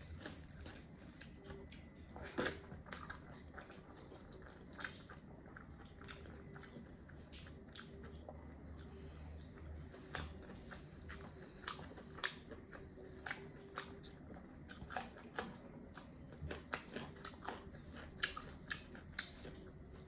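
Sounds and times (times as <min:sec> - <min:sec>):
faint low hum: 0:00.0 - 0:20.0
person chewing with mouth smacks: 0:00.0 - 0:20.0.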